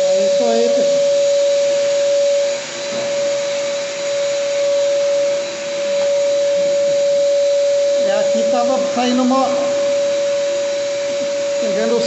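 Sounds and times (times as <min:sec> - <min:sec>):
sanding machine motor hum: 0:00.0 - 0:12.0.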